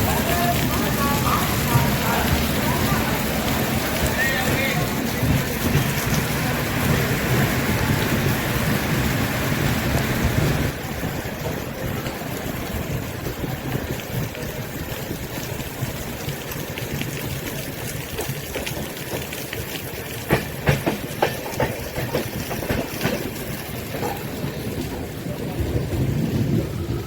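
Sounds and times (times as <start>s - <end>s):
heavy rain: 0.0s - 27.0s
railway carriage rumbling: 0.0s - 27.0s
wheels clacking on rail joints: 0.0s - 27.0s.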